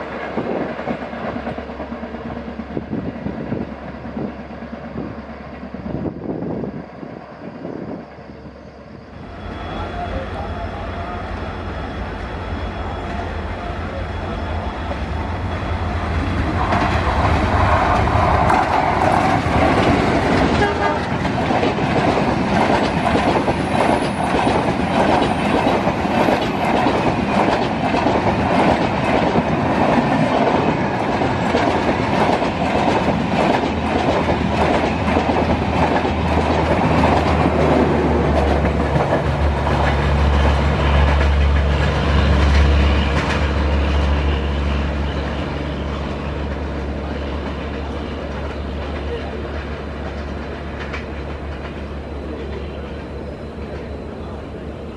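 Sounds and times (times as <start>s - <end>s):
train rushing past: 0.0s - 54.9s.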